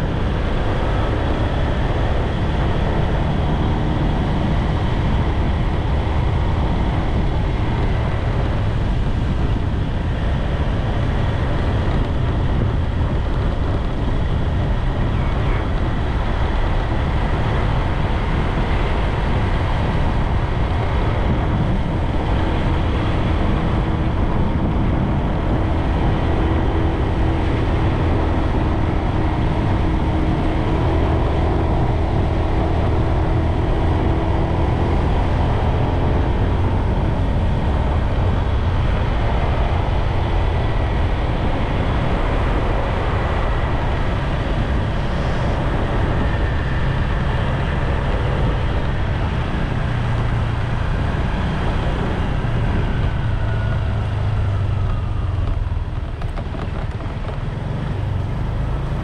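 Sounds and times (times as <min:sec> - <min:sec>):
bike riding rumble on pavement: 0:00.0 - 0:59.0.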